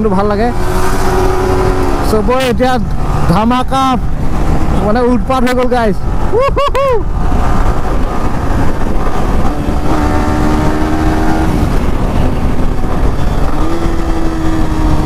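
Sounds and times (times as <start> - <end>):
wind noise on microphone: 0.0 - 5.3, 6.0 - 15.0
motorcycle engine drone: 0.0 - 15.0.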